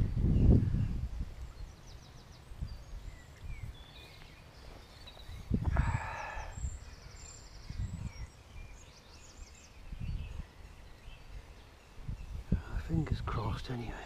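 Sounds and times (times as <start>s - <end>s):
small birds chirping: 0.0s - 14.0s
wind buffeting microphone: 0.0s - 14.0s.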